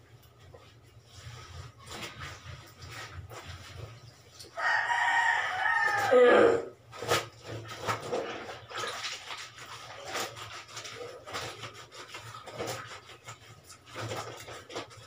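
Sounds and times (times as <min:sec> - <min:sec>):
wet clothes scrubbed by hand: 0:00.0 - 0:15.0.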